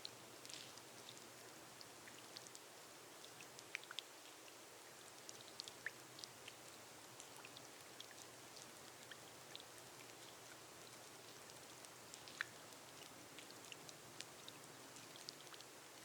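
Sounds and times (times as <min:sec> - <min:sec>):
gentle rain on glass roof: 0:00.0 - 0:16.0.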